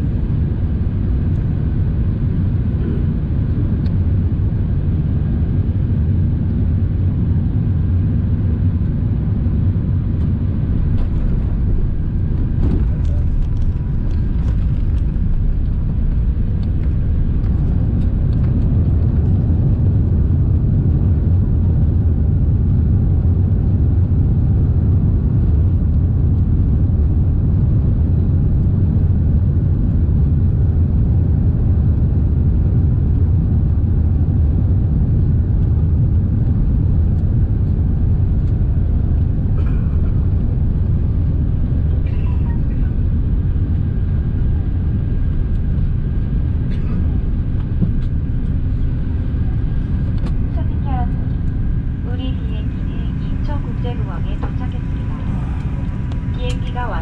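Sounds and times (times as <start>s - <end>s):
aircraft cabin rumble of engines and wheels: 0.0s - 57.0s.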